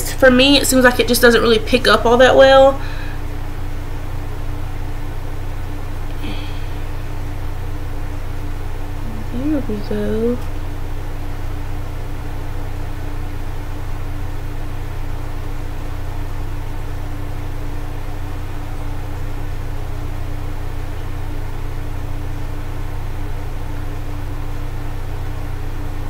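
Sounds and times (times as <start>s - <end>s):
machine hum with steady tone: 0.0s - 26.0s.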